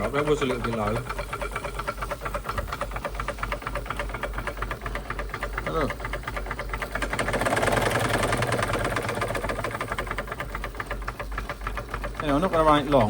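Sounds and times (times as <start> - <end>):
steam hissing: 0.0 - 11.9
model steam engine exhaust beating: 0.0 - 13.0.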